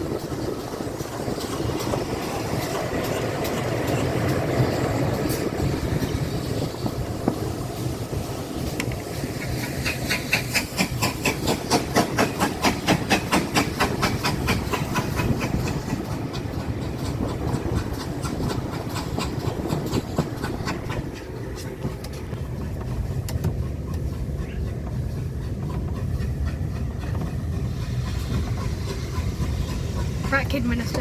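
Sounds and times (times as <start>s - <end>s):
train rumbling on rails: 0.0s - 31.0s
train wheel clicks: 0.0s - 31.0s.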